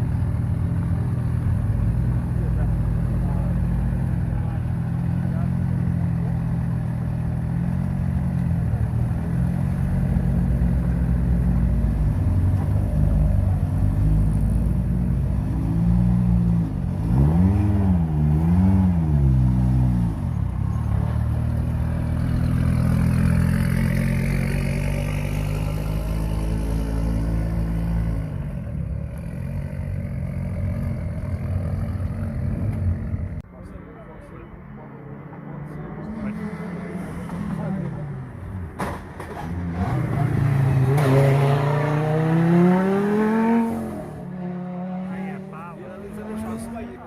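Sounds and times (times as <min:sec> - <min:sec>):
high engine whine: 0:00.0 - 0:47.0
rally car engine revving: 0:02.0 - 0:28.4, 0:35.4 - 0:47.0.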